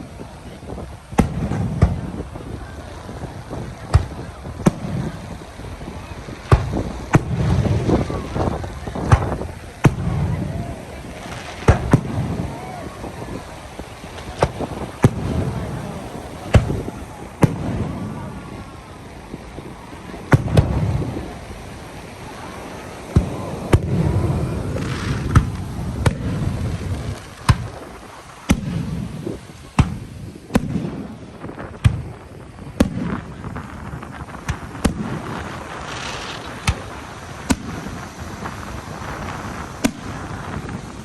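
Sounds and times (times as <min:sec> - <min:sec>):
fireworks banging: 0:00.0 - 0:41.0
low rumbling booms: 0:00.0 - 0:41.0.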